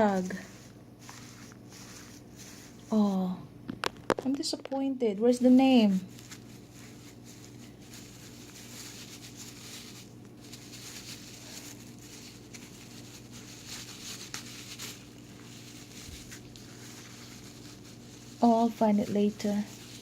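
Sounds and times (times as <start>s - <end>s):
packing paper rustling: 0.0s - 4.6s, 5.2s - 20.0s
steady low hum: 0.0s - 20.0s.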